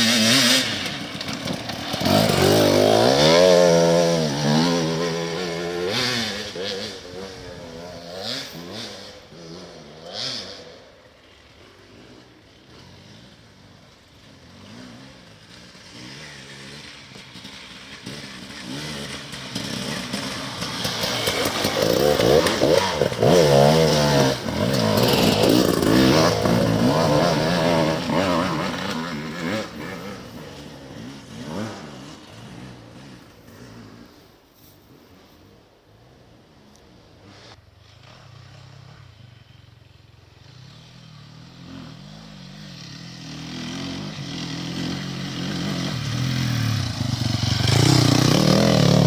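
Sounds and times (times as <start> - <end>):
motorcycle engine passing: 0.0 - 49.0.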